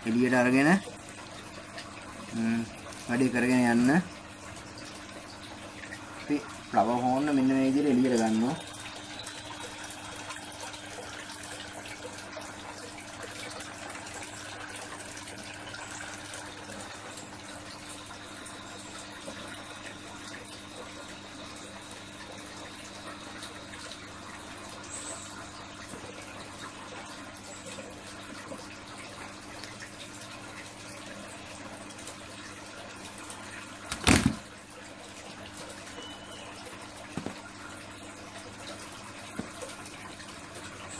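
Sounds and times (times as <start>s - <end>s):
faint steady hum: 0.0s - 40.9s
water running: 0.0s - 40.9s.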